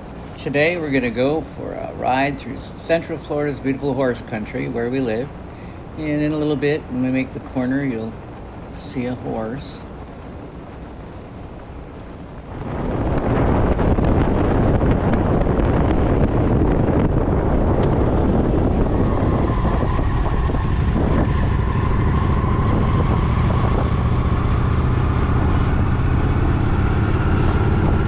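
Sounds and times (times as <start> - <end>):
wind rush on microphone: 0.0 - 28.0.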